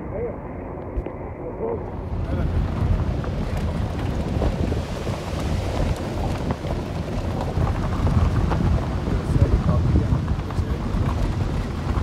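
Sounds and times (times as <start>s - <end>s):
wind noise on microphone: 0.8s - 12.0s
vehicle rumbling on gravel: 1.9s - 12.0s.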